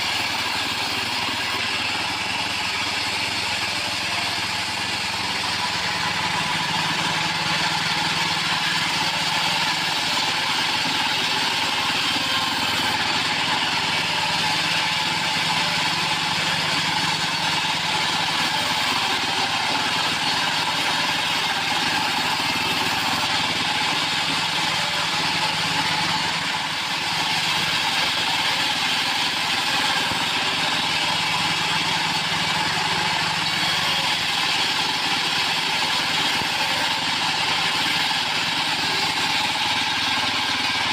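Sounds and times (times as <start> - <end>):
bandsaw sawmill engine running: 0.0 - 40.9.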